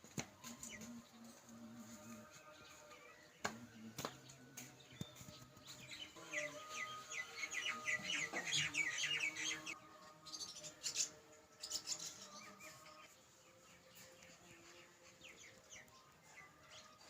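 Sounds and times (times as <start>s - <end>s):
bird chirping: 0.4s - 17.0s.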